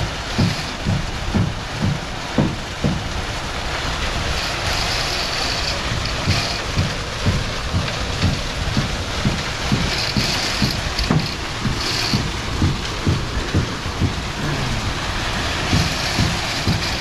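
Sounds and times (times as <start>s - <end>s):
low thump of pump strokes: 0.0s - 3.1s, 4.3s - 17.0s
concrete pump running: 0.0s - 17.0s.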